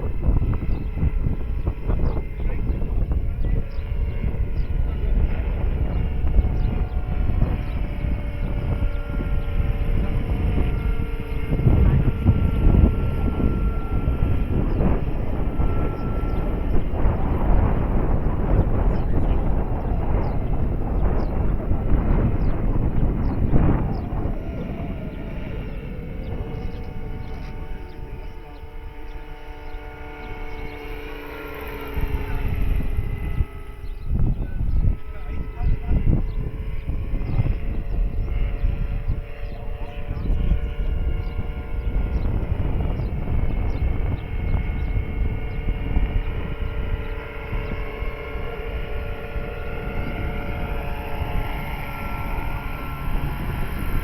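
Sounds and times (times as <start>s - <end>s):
rc helicopter rotor whine: 0.0s - 54.0s
wind buffeting microphone: 0.0s - 54.0s.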